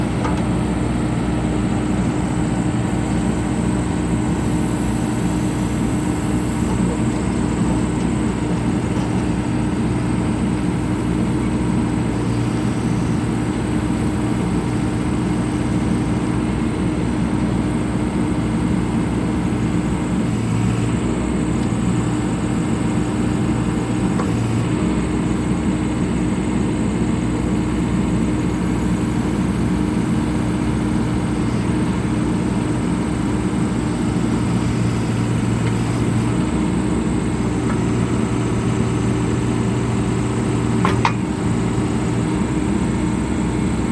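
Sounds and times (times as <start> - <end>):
diesel engine running: 0.0 - 43.9
steady hum: 0.0 - 43.9.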